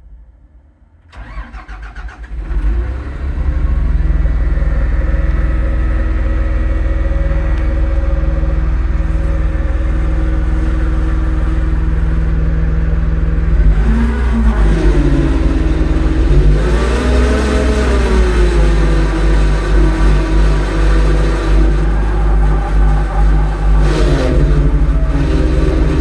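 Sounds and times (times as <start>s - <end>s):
diesel engine idling: 1.1s - 26.0s.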